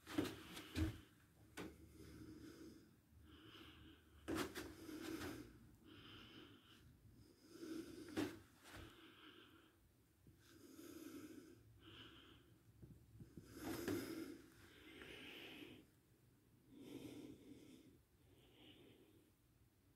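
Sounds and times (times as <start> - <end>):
person breathing softly: 0.1 - 19.6.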